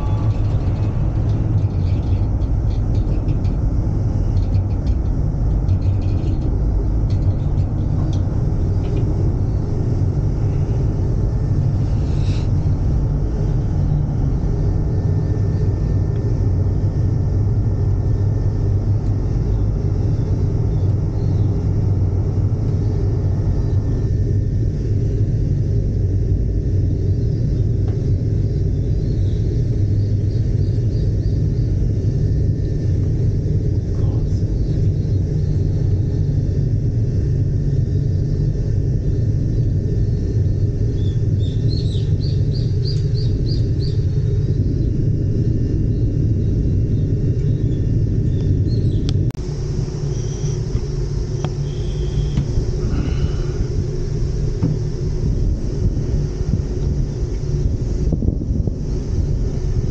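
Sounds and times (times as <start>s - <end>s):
gondola cabin low rumble: 0.0s - 59.9s.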